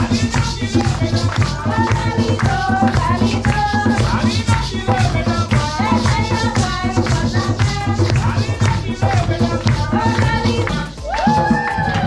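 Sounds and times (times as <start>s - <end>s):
person singing: 0.0s - 12.0s
rattling shakers: 0.0s - 12.0s
steady drum beat: 0.0s - 12.0s.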